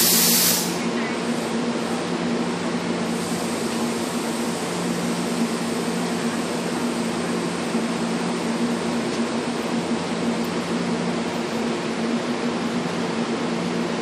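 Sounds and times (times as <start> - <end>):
fan-like hiss: 0.0 - 11.2
train low drone: 0.0 - 14.0.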